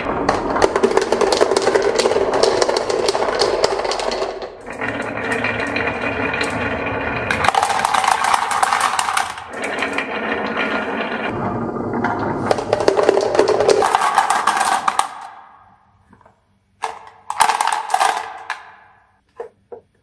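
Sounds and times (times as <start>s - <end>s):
marbles rolling on a marble run: 0.0s - 11.4s, 12.0s - 15.3s, 17.3s - 18.7s.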